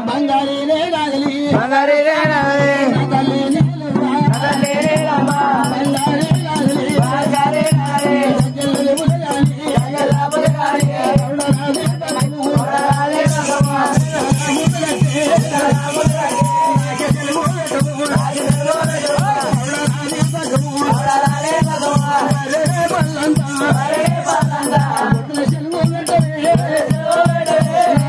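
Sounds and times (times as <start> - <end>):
people singing: 0.0 - 28.0
hand drum beat: 1.5 - 28.0
jingling rattle: 4.4 - 28.0.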